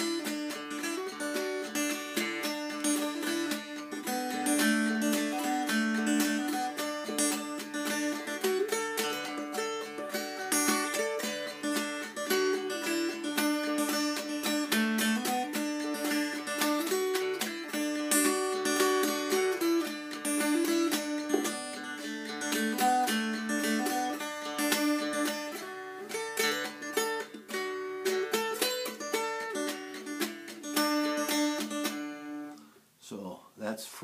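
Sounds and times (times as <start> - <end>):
mountain dulcimer strumming: 0.0 - 32.6.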